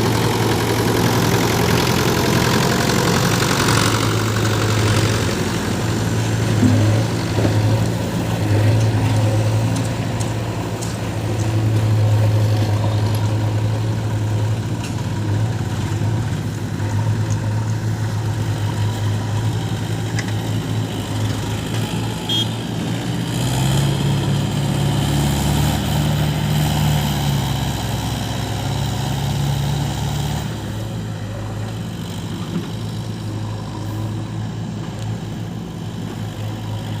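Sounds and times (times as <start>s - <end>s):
deeper engine sound: 0.0s - 37.0s
diesel engines running: 0.0s - 37.0s.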